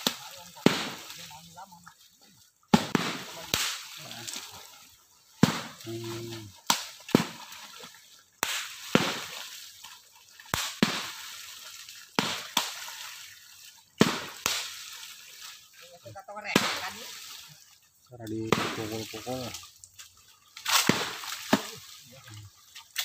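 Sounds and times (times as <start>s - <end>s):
poles slapping water: 0.0s - 23.0s
splashing water: 0.0s - 23.0s.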